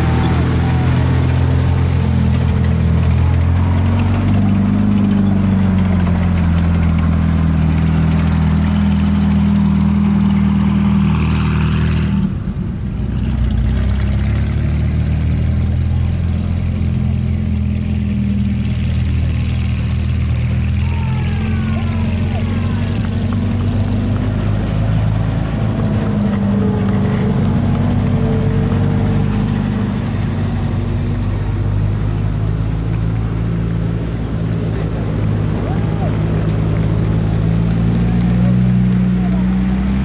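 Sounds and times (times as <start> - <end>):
armoured car engine running: 0.0 - 40.0
tank engine driving past: 0.0 - 40.0.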